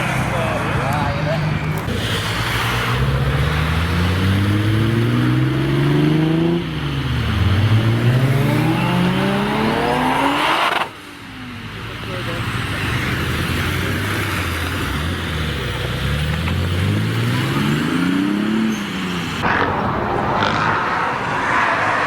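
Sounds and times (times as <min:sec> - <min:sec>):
car engine accelerating hard: 0:00.3 - 0:11.0, 0:12.1 - 0:22.0.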